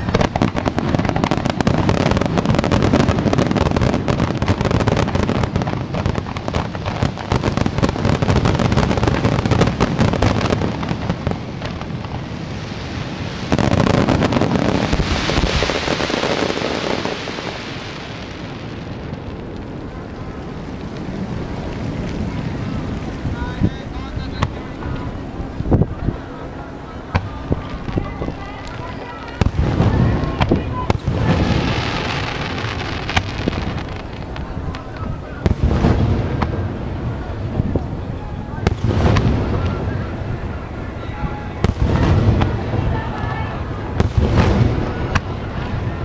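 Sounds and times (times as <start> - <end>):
fireworks bangs and pops: 0.0 - 26.3, 27.1 - 46.0
hissing crackle: 0.0 - 46.0
loud firework burst: 0.0 - 46.0.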